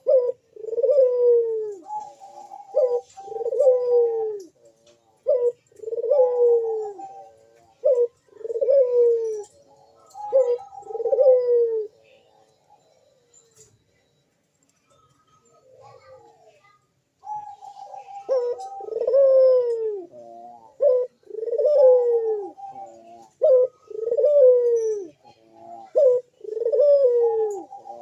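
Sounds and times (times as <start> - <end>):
dove cooing: 0.0 - 14.2, 14.8 - 28.0.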